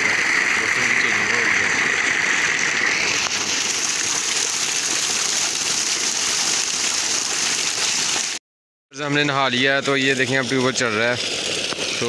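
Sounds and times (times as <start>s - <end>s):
water gushing and splashing: 0.0s - 8.4s, 9.2s - 12.0s.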